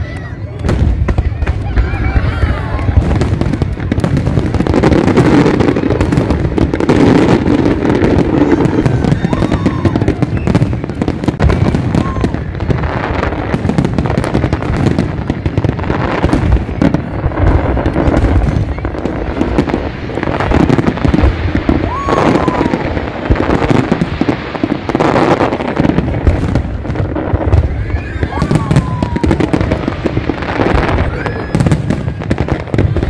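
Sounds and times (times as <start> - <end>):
fireworks bangs and crackling: 0.0 - 33.0
people's voices: 0.0 - 33.0.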